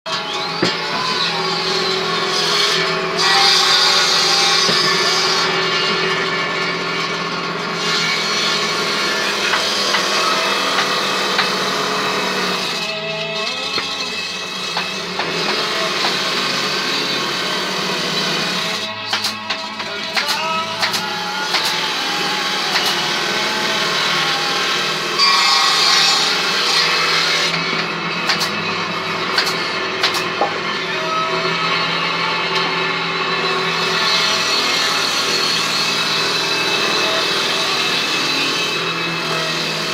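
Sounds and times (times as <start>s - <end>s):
power tool cutting wood: 0.1s - 39.9s.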